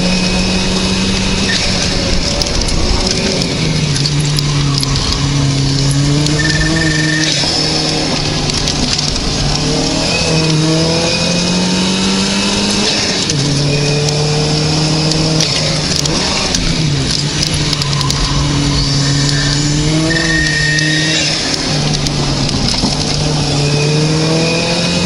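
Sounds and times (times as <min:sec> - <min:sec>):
car engine pulling hard: 0:00.0 - 0:25.0
road and wind rush: 0:00.0 - 0:25.0.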